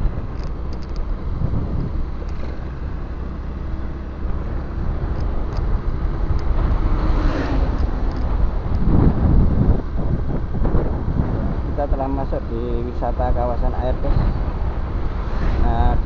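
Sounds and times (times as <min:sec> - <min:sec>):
vehicle road noise: 0:00.0 - 0:16.0
wind on microphone: 0:00.0 - 0:16.0.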